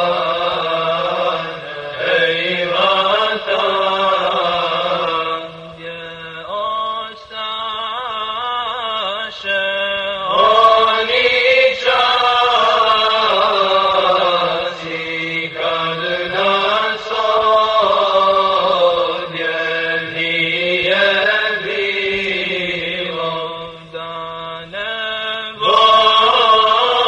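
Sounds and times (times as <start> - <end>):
voices chanting long notes: 0.0 - 7.2, 10.2 - 27.0
low drone: 0.0 - 27.0.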